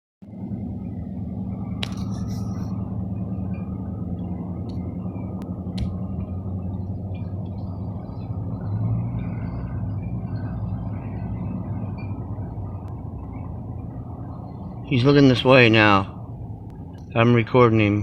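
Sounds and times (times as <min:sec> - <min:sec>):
constant low hum: 0:00.2 - 0:18.0
vehicle engine idling: 0:00.2 - 0:18.0.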